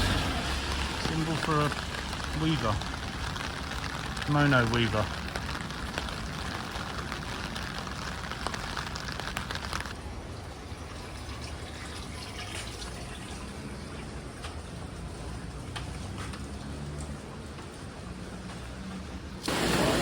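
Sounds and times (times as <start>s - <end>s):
rain falling: 0.0s - 12.0s, 12.8s - 20.0s
water running and splashing: 0.0s - 20.0s.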